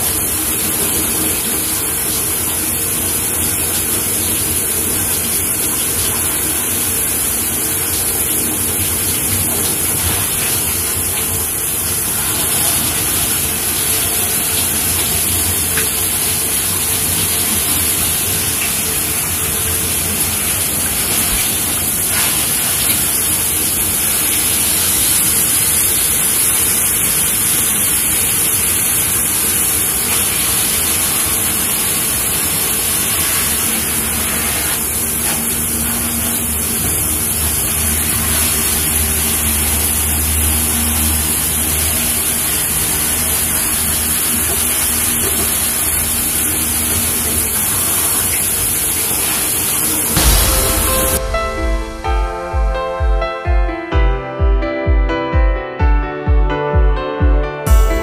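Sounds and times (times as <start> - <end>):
fountain water splashing: 0.0 - 52.0.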